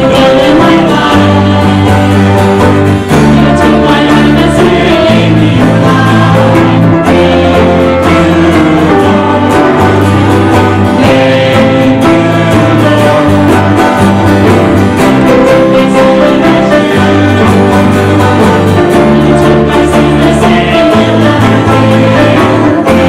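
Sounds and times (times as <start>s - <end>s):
guitar: 0.0s - 23.0s
held bass notes: 0.0s - 23.0s
voices singing: 0.0s - 23.0s.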